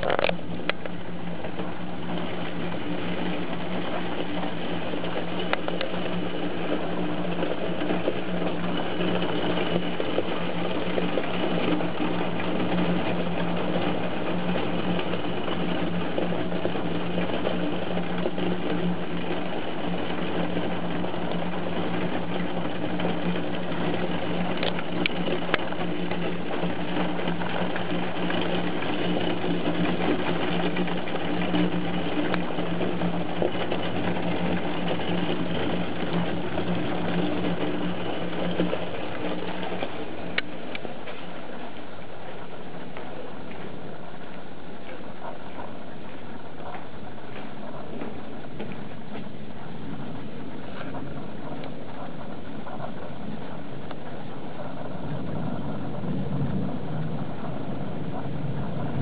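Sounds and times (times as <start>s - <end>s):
heavy rain drumming: 0.0s - 59.0s
low steady hum: 0.0s - 59.0s.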